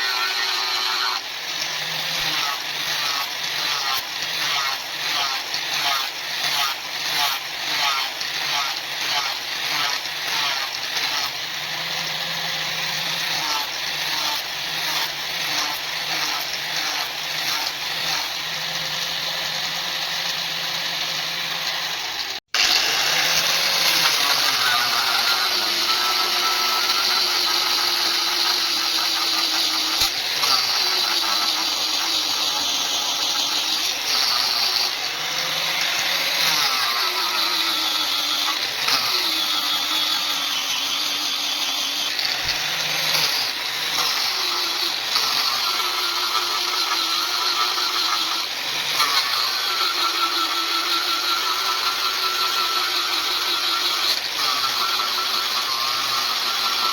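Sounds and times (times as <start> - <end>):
power tool motor cutting steel: 0.0 - 56.9.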